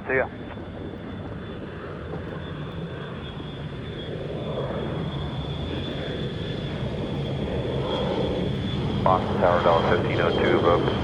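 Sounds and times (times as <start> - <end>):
jet airliner engines rumbling: 0.0 - 11.0.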